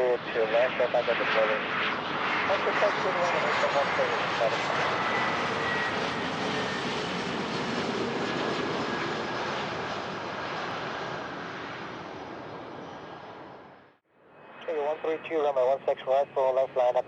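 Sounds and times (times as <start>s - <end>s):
jet passing by: 0.0s - 13.8s.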